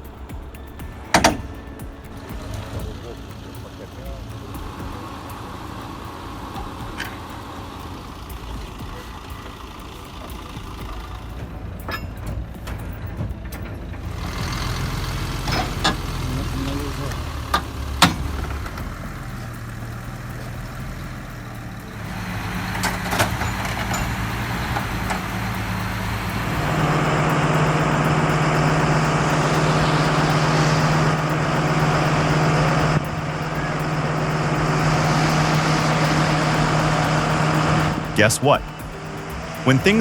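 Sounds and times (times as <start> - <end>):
heavy vehicle engine running: 0.0 - 40.0.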